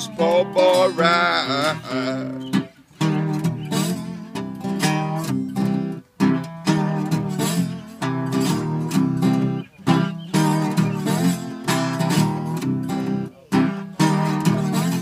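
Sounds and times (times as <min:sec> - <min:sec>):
acoustic slide guitar blues riff: 0:00.0 - 0:15.0.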